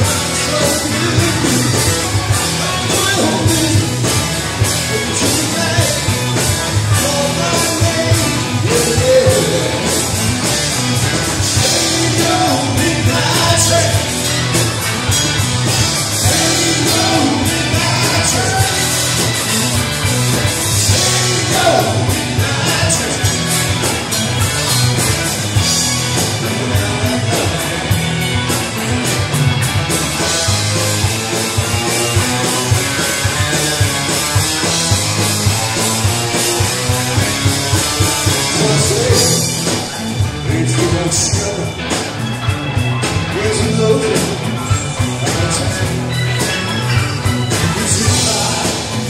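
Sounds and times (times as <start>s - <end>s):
bass: 0.0s - 49.0s
drums with steady beat: 0.0s - 49.0s
electric guitars: 0.0s - 49.0s
keyboard: 0.0s - 49.0s.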